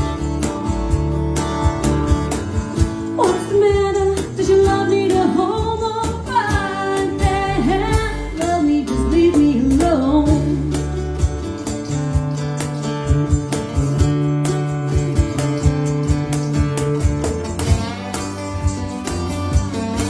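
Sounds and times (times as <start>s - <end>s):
guitar strumming: 0.0s - 20.0s.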